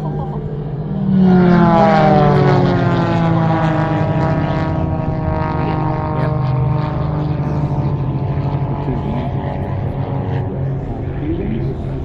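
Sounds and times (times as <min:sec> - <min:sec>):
propeller plane engine: 0:00.0 - 0:12.0.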